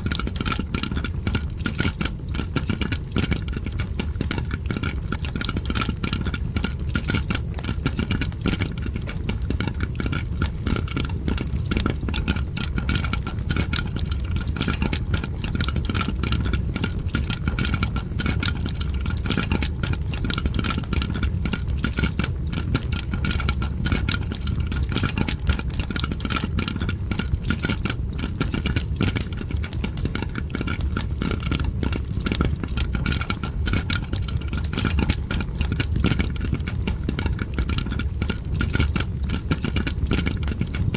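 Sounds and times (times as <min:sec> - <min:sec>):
crackling fireplace: 0:00.0 - 0:40.9
popcorn popping: 0:00.0 - 0:40.9.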